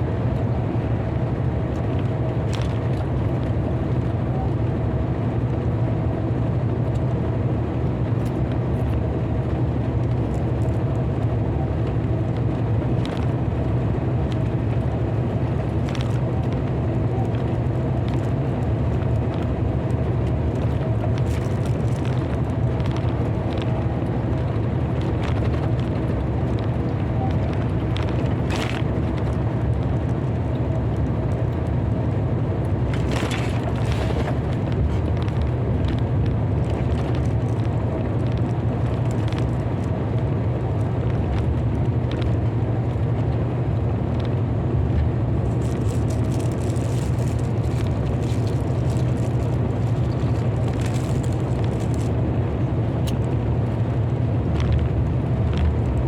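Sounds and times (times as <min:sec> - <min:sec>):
vehicle engine humming: 0:00.0 - 0:56.0.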